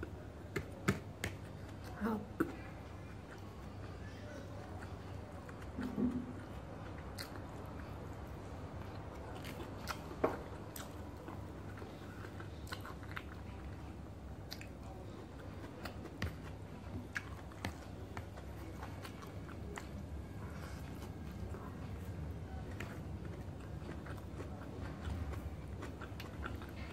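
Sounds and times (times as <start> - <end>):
chewing and mouth sounds: 0.0 - 26.9
steady low hum: 0.0 - 26.9.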